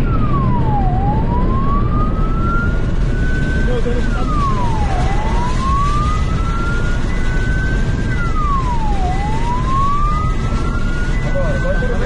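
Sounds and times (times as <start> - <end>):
car engine and road noise: 0.0 - 12.0
police siren wailing: 0.0 - 12.0.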